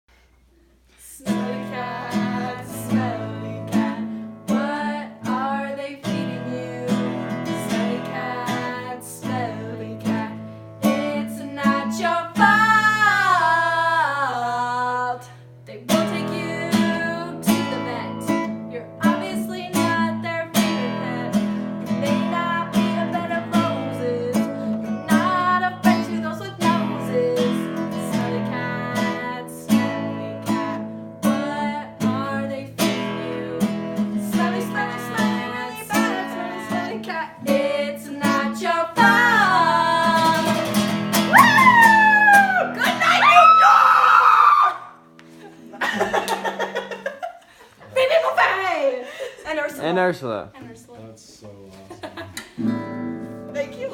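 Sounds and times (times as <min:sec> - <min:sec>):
acoustic guitar strumming: 0:01.2 - 0:43.2, 0:52.5 - 0:53.9.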